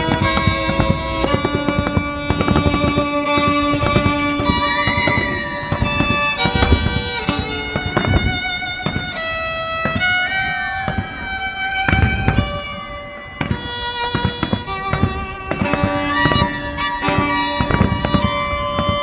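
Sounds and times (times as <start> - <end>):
string music with held notes: 0.0 - 19.0.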